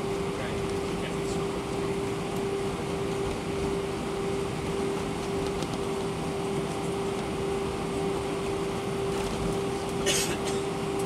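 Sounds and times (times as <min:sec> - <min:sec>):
air conditioning rushing: 0:00.0 - 0:11.0
jet engines idling: 0:00.0 - 0:11.0
mid-pitched hum: 0:00.0 - 0:11.0.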